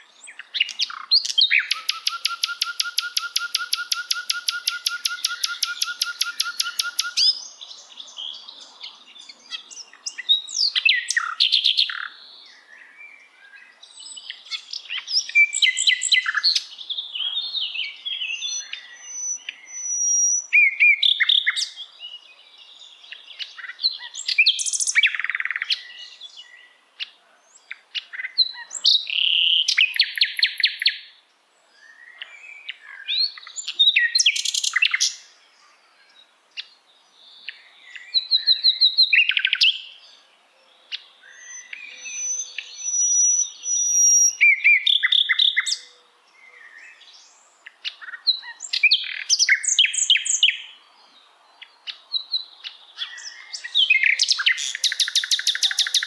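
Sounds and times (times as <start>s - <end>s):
songbird singing varied song: 0.0s - 56.0s.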